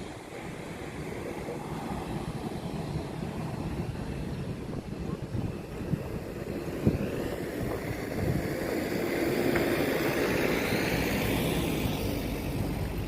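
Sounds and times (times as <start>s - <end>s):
aircraft passing overhead: 0.0s - 13.0s
wind rumbling on microphone: 0.0s - 13.0s.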